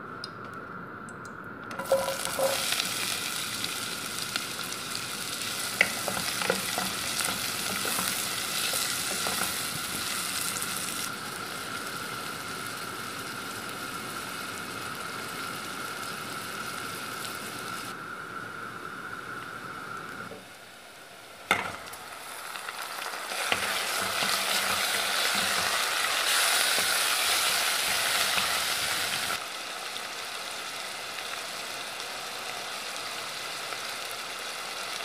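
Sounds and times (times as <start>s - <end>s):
onion sizzling in hot oil: 1.8s - 35.0s.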